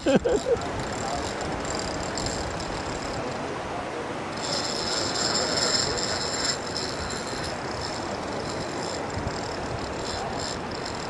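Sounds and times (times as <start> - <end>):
fishing reel whine: 0.3 - 3.4, 4.3 - 11.0.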